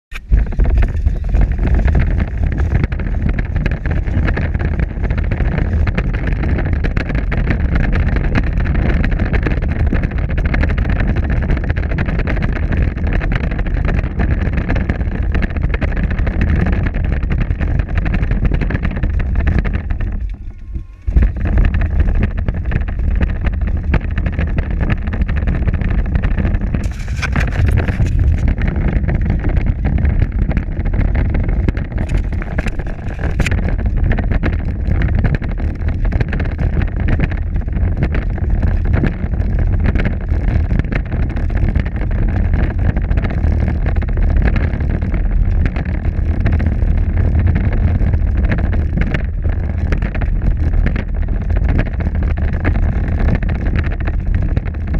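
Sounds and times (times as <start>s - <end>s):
toy car wheels rumbling: 0.1s - 54.9s.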